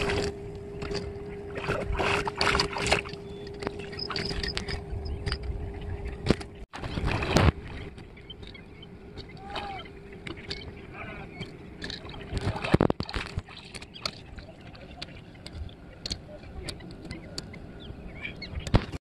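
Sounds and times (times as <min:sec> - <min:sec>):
water splashing around wading legs: 0:00.0 - 0:05.4, 0:06.2 - 0:17.5.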